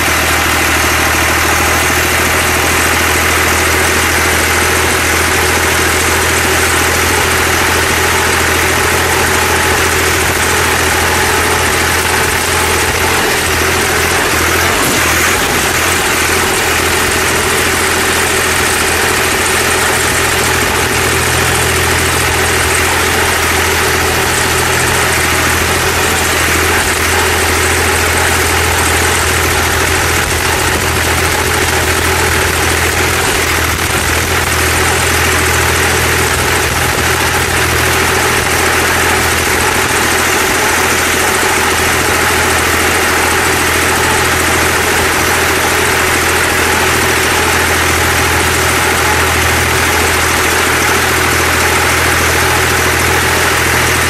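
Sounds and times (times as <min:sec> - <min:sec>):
tractor engine humming: 0:00.0 - 0:54.0.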